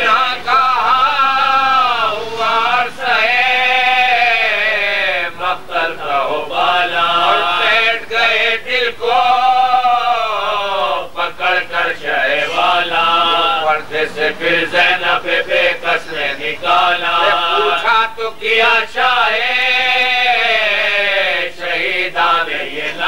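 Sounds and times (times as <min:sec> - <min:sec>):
man chanting a lament: 0:00.0 - 0:23.0.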